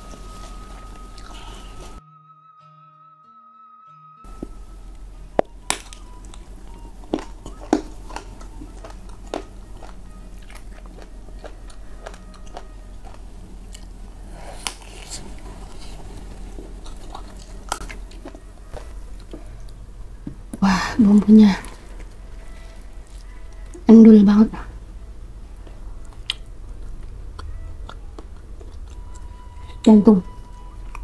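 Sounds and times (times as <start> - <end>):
soft chewing: 0.0 - 2.0, 4.3 - 23.9, 25.4 - 31.0.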